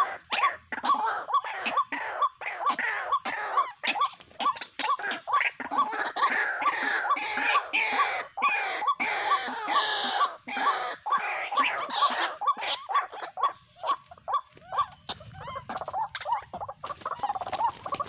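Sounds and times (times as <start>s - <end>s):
chorus of bird calls: 0.0s - 18.0s.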